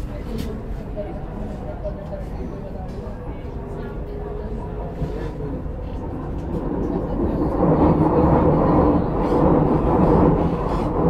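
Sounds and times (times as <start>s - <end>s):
train wheels rumbling on rail: 0.1s - 11.0s.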